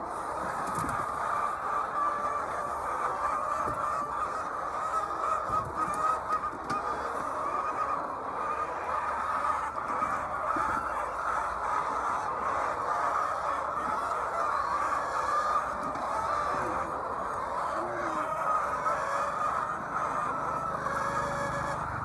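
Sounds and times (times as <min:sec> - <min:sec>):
hens calling in chorus: 0:00.0 - 0:22.0.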